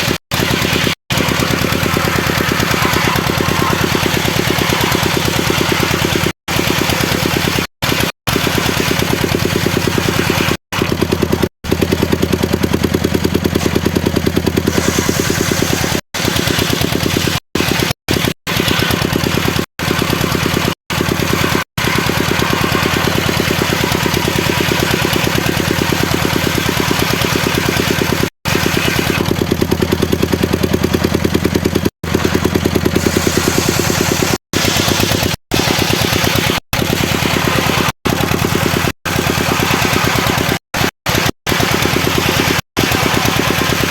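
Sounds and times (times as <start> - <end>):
sawmill engine pulsing: 0.0 - 43.9.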